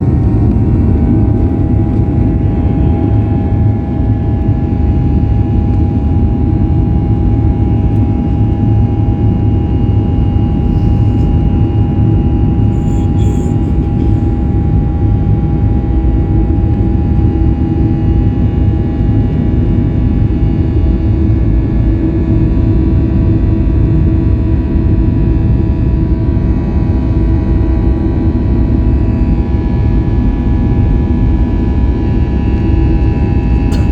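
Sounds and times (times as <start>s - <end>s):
jet engines at high thrust: 0.0s - 33.9s.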